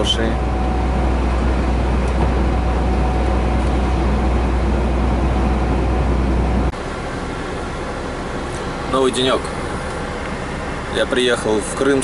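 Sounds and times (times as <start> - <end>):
road and wind noise: 0.0 - 12.0
truck engine rumble: 0.0 - 12.0.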